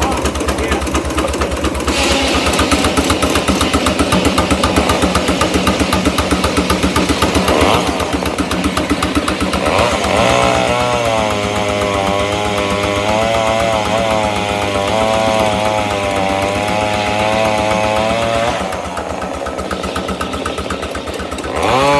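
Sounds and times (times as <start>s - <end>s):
saw blade whine: 0.0s - 21.9s
steam engine exhaust beat: 0.0s - 21.9s.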